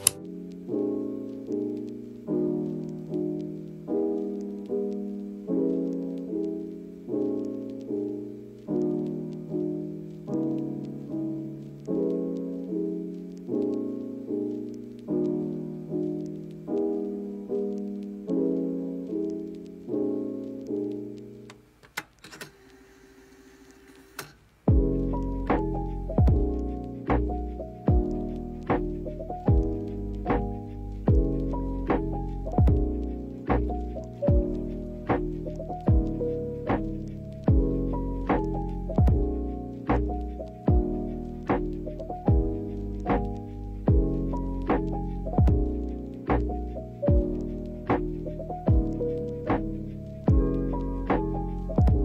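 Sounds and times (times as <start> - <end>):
piano chords: 0.0 - 21.8, 24.6 - 52.0.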